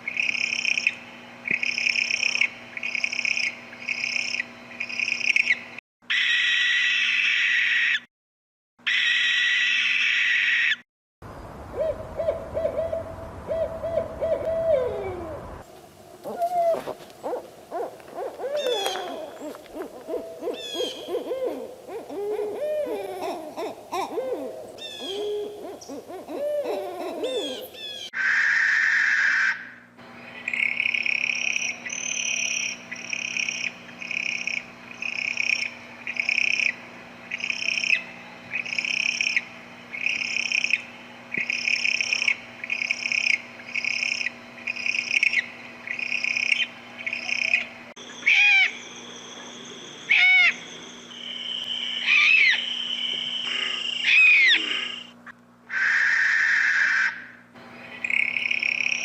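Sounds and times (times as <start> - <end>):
owl calling: 0.1 - 8.1, 8.9 - 10.8, 11.8 - 15.6, 16.2 - 29.8, 30.4 - 59.0.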